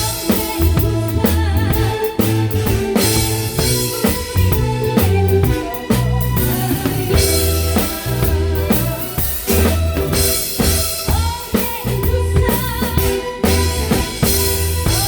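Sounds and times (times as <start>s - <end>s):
band playing a song: 0.0s - 15.0s
bass drum and snare beat: 0.0s - 15.0s.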